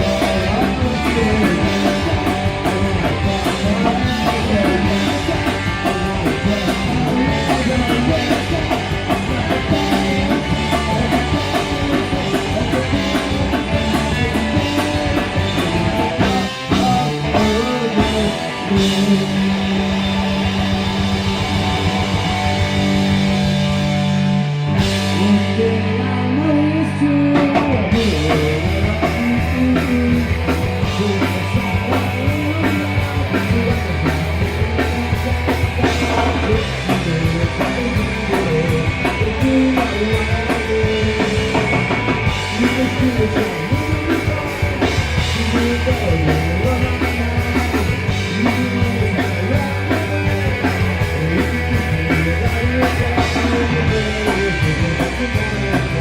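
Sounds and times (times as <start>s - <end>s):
drum kit: 0.0s - 56.0s
punk rock band playing live: 0.0s - 56.0s.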